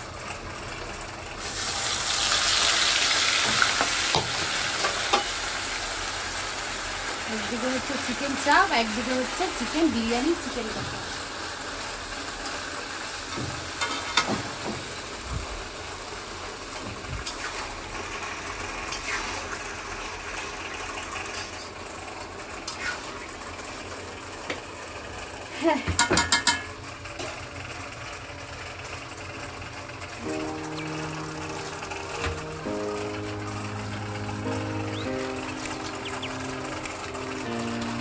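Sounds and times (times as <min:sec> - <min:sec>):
food sizzling in pans: 0:00.0 - 0:28.1, 0:30.2 - 0:38.0.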